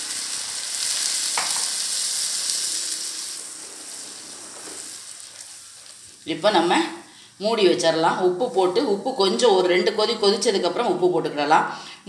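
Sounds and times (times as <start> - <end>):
food sizzling in a pan: 0.0 - 10.5.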